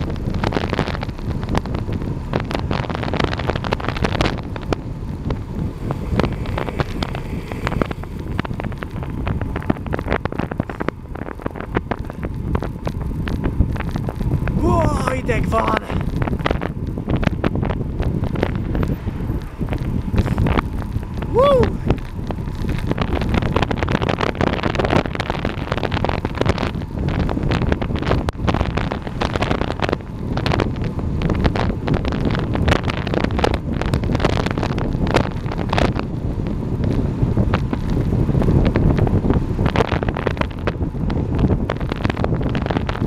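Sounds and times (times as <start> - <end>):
wind buffeting thumps: 0.0 - 43.0
wind rushing over microphone: 0.0 - 43.0.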